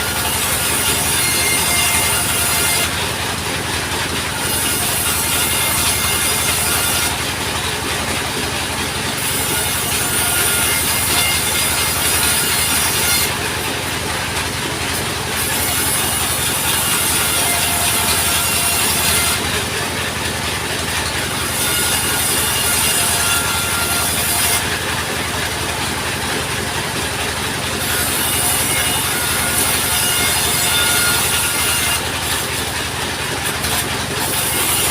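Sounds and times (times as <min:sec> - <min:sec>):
sawmill saw cutting timber: 0:00.0 - 0:34.9.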